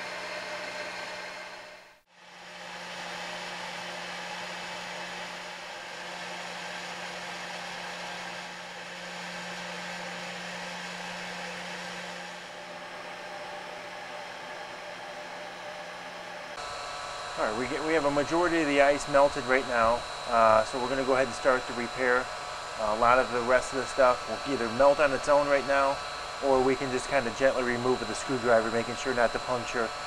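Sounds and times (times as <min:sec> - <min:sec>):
heat gun fan rush: 0:00.0 - 0:30.0.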